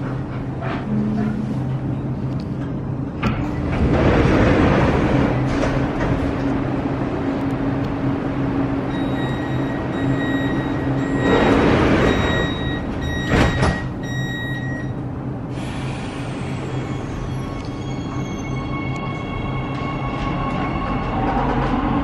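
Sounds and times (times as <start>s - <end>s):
metro train electric hum: 0.0s - 22.0s.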